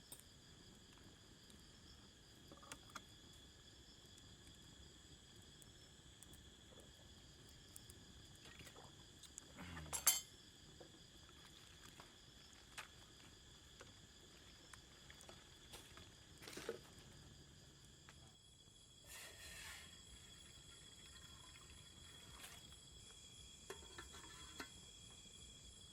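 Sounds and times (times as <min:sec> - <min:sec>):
insects droning: 0:00.0 - 0:25.9.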